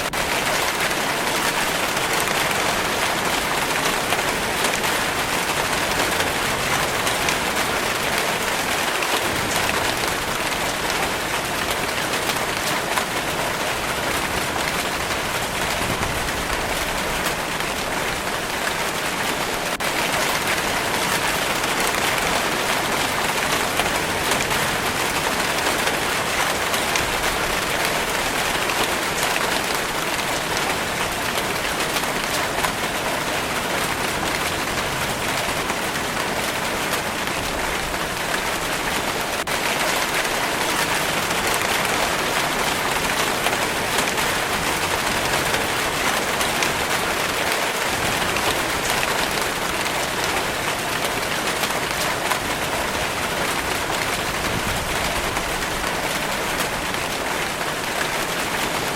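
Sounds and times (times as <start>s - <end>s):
raindrops pattering on a surface: 0.0s - 58.9s
steady rainfall: 0.0s - 58.9s.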